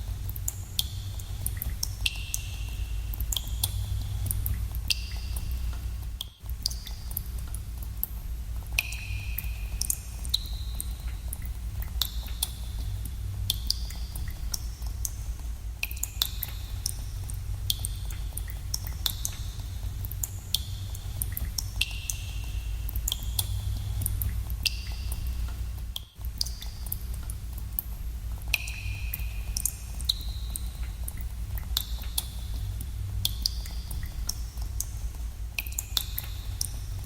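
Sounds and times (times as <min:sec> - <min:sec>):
steady low rumble: 0:00.0 - 0:37.0
water dripping in a cave: 0:00.0 - 0:37.0.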